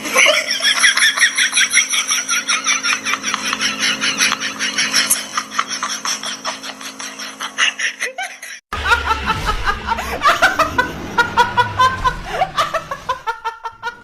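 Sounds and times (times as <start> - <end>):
laughter in short bursts: 0.0 - 14.0.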